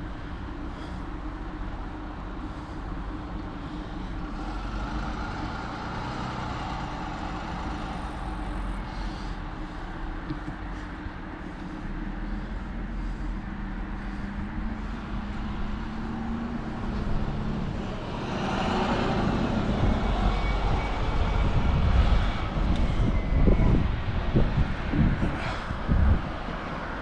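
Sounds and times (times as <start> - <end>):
motor vehicle hum and rumble: 0.0 - 27.0
rushing traffic noise: 0.0 - 27.0.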